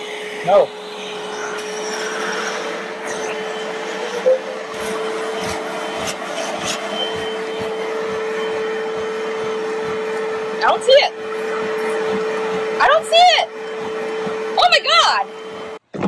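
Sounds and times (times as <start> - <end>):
carpet cleaner motor humming: 0.0 - 15.8
suction nozzle on carpet: 0.0 - 15.8.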